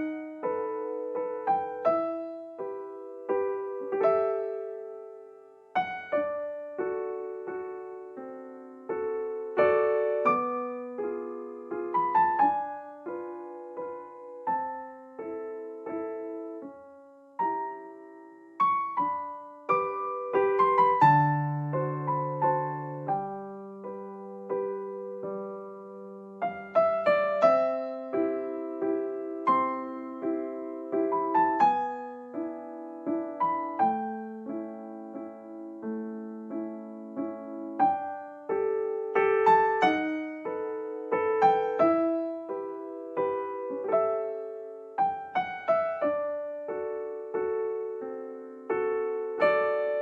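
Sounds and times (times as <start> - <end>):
gentle piano melody: 0.0 - 50.0.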